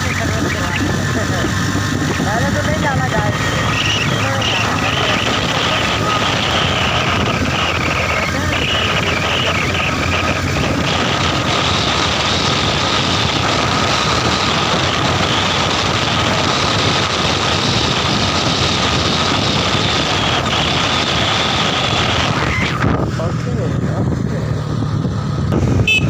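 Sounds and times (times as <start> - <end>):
motorcycle engine drone: 0.0 - 26.0
rushing wind noise: 0.0 - 26.0.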